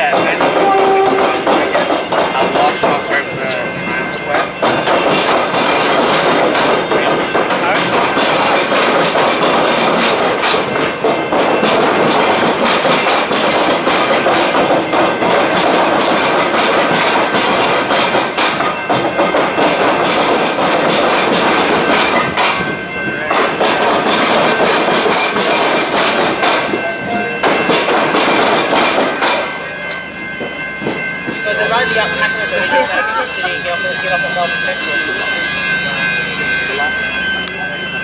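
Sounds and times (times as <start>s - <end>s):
wheels on rail: 0.0s - 38.0s.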